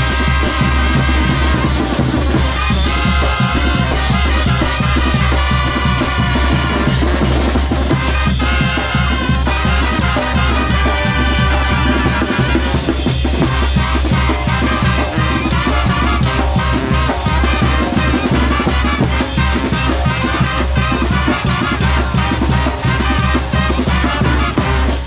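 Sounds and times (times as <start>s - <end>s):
brass band playing: 0.0s - 25.0s.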